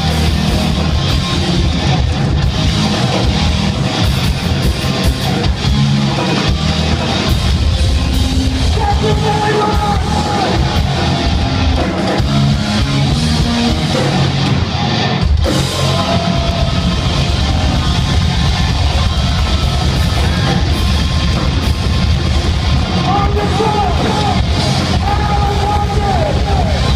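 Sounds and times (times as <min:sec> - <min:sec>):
live hard rock band playing: 0:00.0 - 0:26.9.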